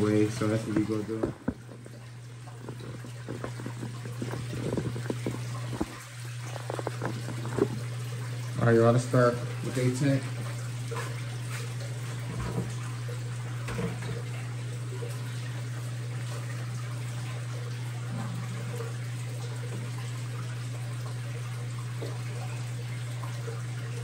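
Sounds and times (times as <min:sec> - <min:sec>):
low pump hum: 0:00.0 - 0:24.0
water trickling and bubbling: 0:00.0 - 0:24.0.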